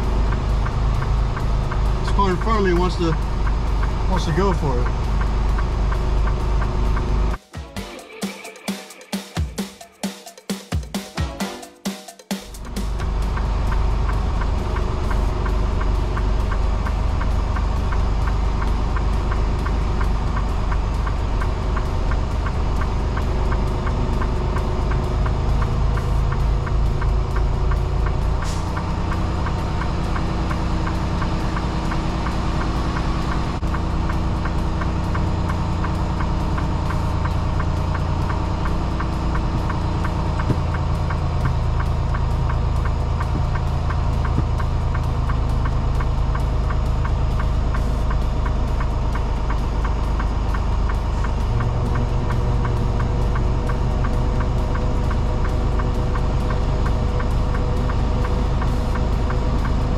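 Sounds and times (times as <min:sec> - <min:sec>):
truck diesel engine running: 0:00.0 - 0:07.7, 0:12.4 - 0:59.9.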